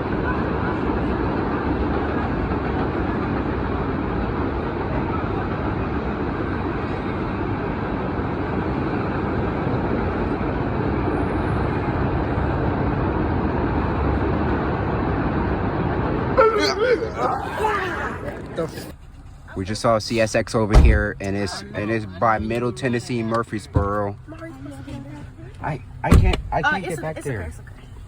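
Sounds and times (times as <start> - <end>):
steady vehicle rumble: 0.0 - 28.0.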